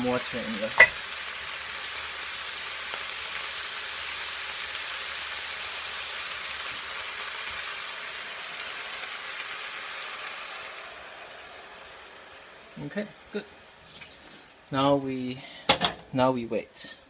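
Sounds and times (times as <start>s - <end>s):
food sizzling in a hot pan: 0.0s - 16.2s.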